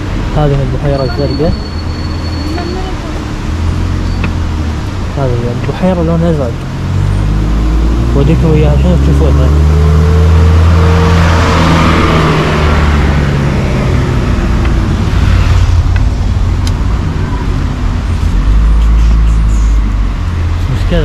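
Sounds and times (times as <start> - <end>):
vehicle passing: 2.4 - 21.0.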